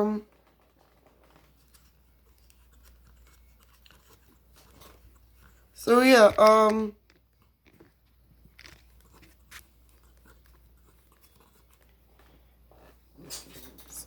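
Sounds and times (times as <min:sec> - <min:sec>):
soft rustles: 0:00.0 - 0:14.0.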